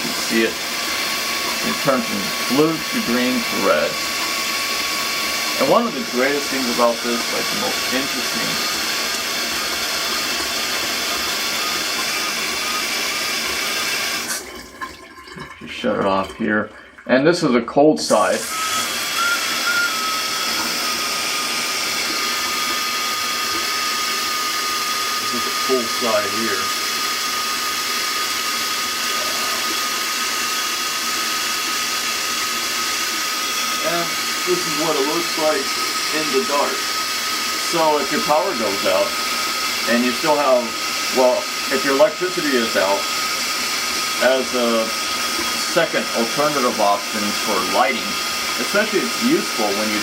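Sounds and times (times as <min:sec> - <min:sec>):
shower water spraying: 0:00.0 - 0:15.0, 0:18.1 - 0:50.0.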